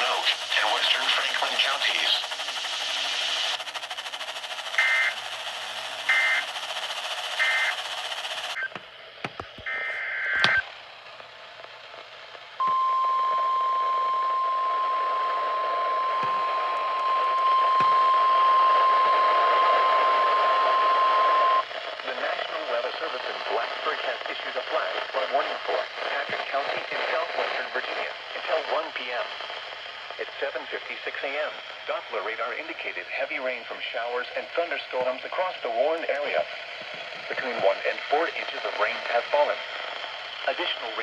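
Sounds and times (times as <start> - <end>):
radio hiss: 0.0 - 11.0, 13.3 - 41.0.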